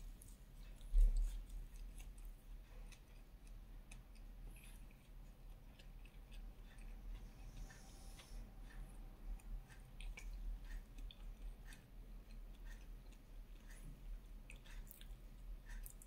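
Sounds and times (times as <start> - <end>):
soft food squishes: 0.0 - 16.0.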